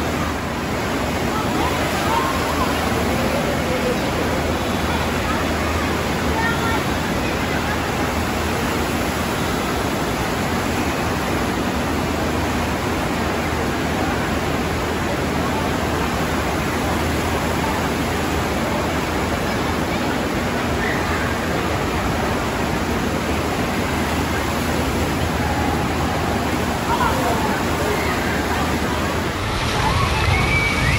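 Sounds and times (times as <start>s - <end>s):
loud rush of water: 0.0s - 30.9s.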